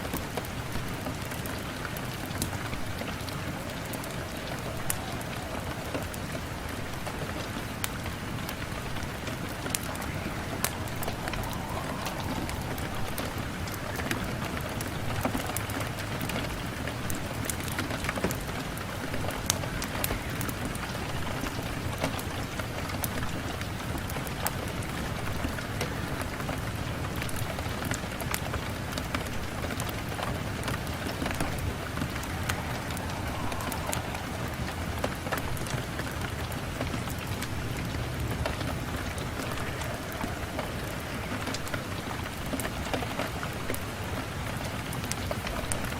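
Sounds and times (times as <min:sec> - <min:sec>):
rain on window glass: 0:00.0 - 0:45.9.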